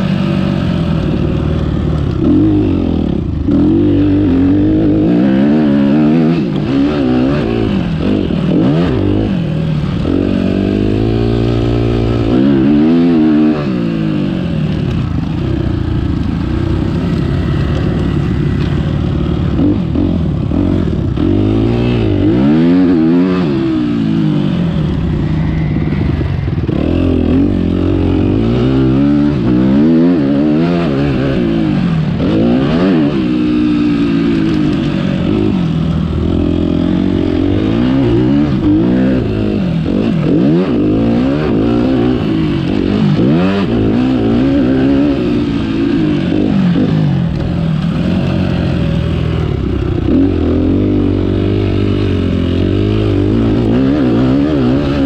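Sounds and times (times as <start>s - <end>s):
motocross engine revving: 0.0s - 55.0s.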